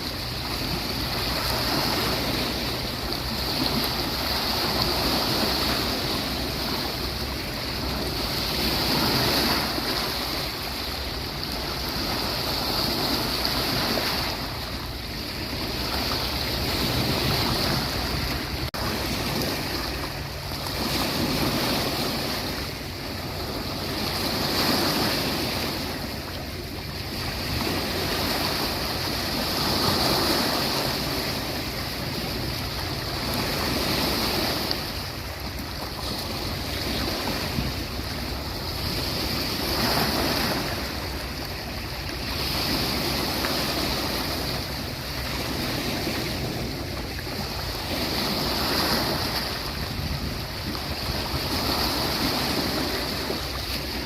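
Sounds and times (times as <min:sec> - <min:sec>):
ocean waves washing onto beach: 0:00.0 - 0:54.0.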